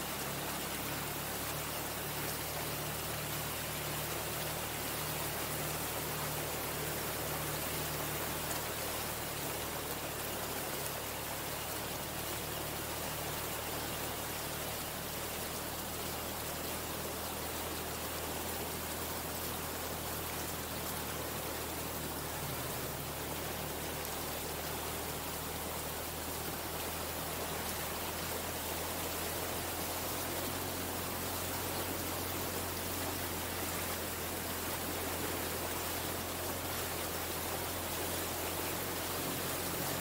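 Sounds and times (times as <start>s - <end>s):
water splashing under truck wheels: 0.0s - 40.0s.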